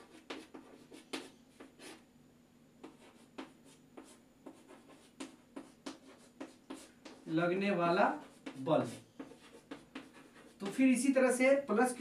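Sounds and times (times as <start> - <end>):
chalk writing on chalkboard: 0.0 - 2.0, 2.8 - 11.3.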